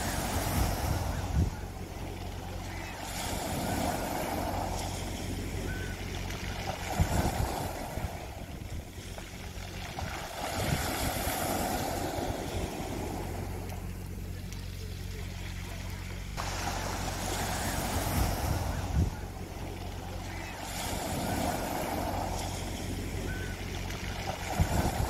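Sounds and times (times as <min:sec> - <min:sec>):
steady low hum: 0:00.0 - 0:25.0
waves breaking on pebble beach: 0:00.0 - 0:25.0.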